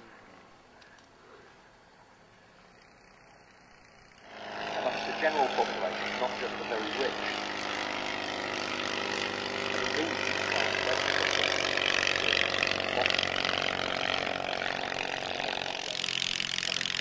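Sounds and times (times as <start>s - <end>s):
light aircraft engine and propeller: 0.0s - 17.0s.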